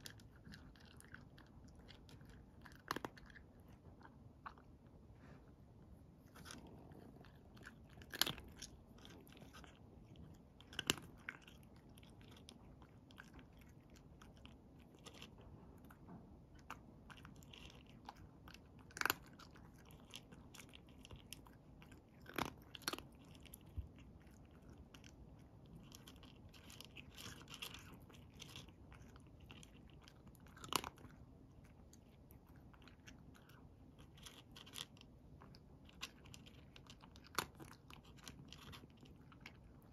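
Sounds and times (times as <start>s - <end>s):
sharp kibble crunches: 0.0s - 4.8s, 6.2s - 39.9s
cat chewing dry kibble: 0.0s - 39.9s.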